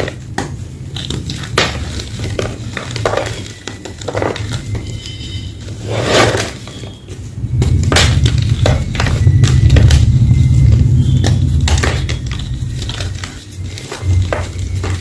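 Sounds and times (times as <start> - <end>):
chalk block cracking and crunching: 0.0 - 15.0
low rumble of chalk grinding: 0.8 - 15.0.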